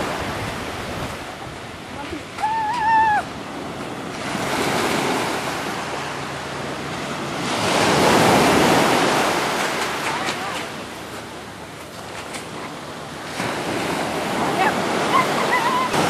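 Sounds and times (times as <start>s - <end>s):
surf on a pebble beach: 0.0s - 16.0s.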